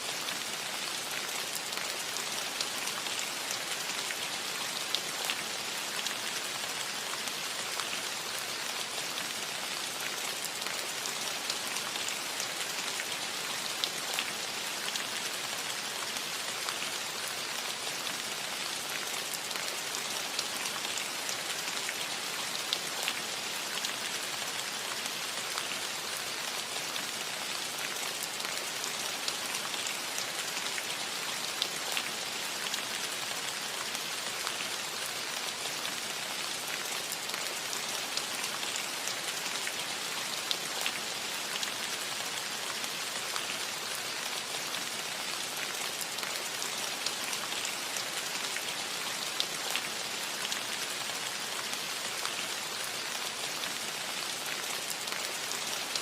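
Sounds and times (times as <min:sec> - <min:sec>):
rain hissing on a roof: 0:00.0 - 0:56.0.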